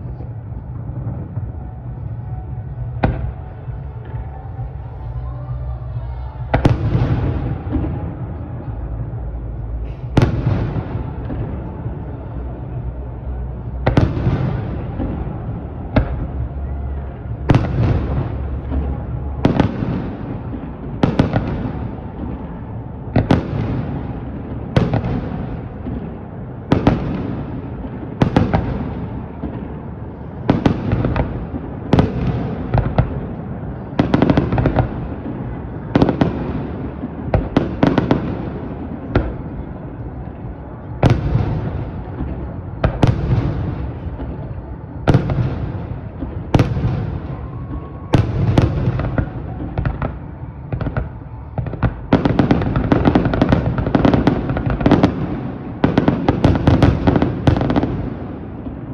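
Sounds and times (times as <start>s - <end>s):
rolling echo rumble: 0.0s - 58.9s.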